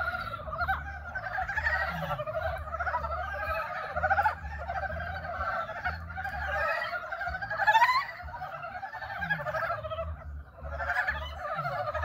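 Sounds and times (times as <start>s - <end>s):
frogs croaking in chorus: 0.0s - 12.0s.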